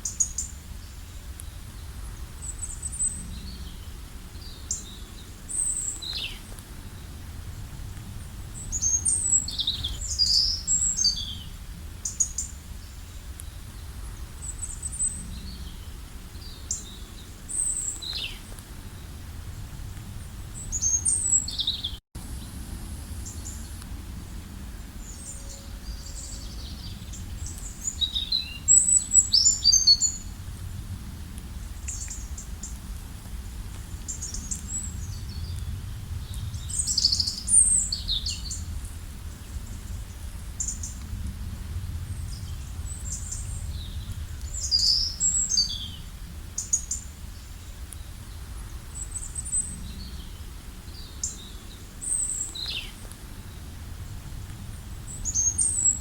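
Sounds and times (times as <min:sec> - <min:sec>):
small birds chirping: 0:00.0 - 0:07.3, 0:08.2 - 0:19.2, 0:20.2 - 0:30.4, 0:31.6 - 0:32.9, 0:33.8 - 0:41.2, 0:42.0 - 0:56.0.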